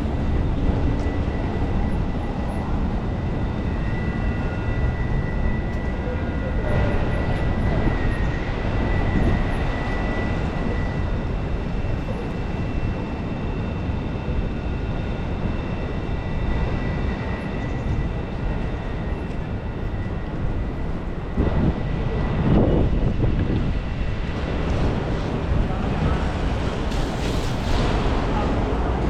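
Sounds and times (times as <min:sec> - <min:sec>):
traffic rumble: 0:00.0 - 0:29.0
wind noise: 0:00.0 - 0:29.0.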